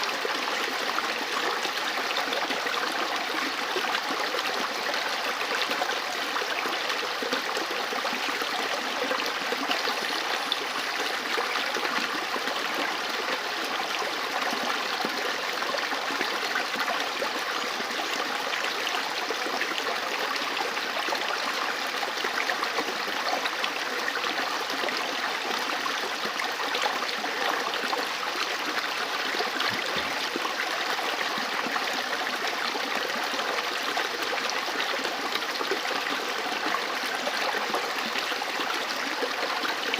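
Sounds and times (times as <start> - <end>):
river water running over stones: 0.0 - 39.9.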